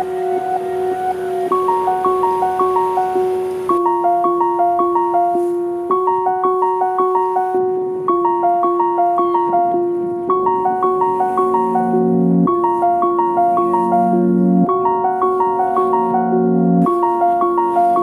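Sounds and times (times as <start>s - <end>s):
gentle piano arpeggio music: 0.0s - 18.0s.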